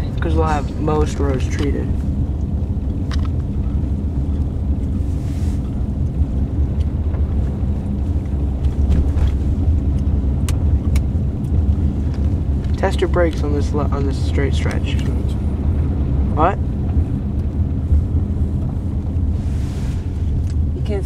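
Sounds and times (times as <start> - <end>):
car interior rumble: 0.0 - 21.0.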